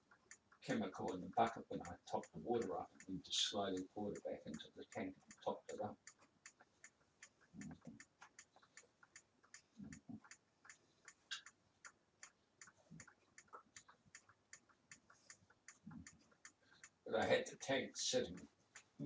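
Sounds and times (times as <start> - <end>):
quiet regular ticking: 0.0 - 19.0.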